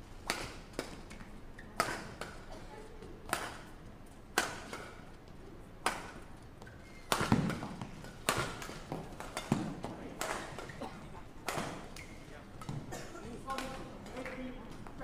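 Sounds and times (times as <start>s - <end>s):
rackets hitting shuttlecock: 0.2s - 2.5s, 3.2s - 5.0s, 5.8s - 15.0s.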